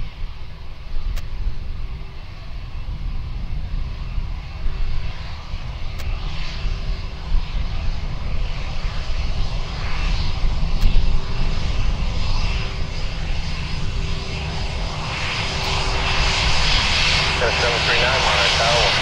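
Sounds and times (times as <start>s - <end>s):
jet engines idling: 0.0s - 19.0s.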